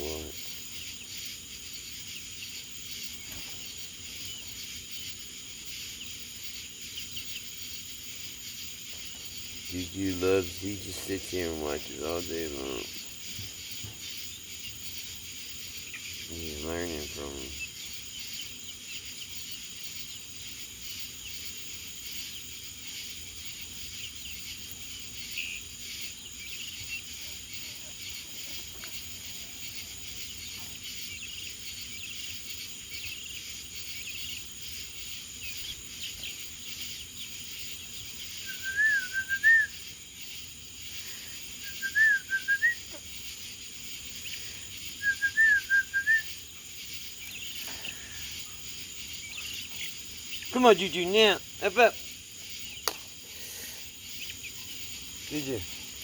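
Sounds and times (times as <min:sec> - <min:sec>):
crickets chirring: 0:00.0 - 0:56.0
warbling whistled calls: 0:00.0 - 0:56.0.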